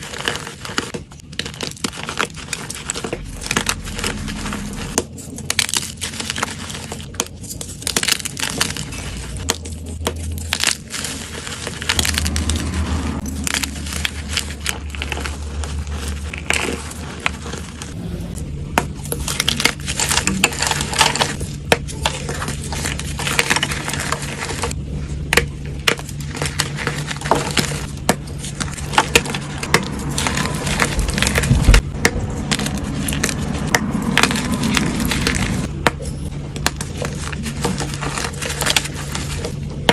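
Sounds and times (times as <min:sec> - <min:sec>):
chalk blocks being crushed: 0:00.0 - 0:18.0, 0:18.7 - 0:39.9.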